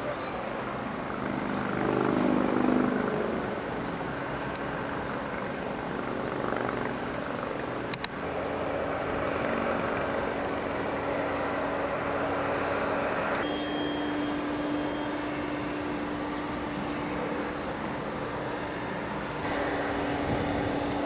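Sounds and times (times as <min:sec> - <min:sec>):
diesel engines droning: 0:00.0 - 0:21.0
thin high whine: 0:02.0 - 0:21.0.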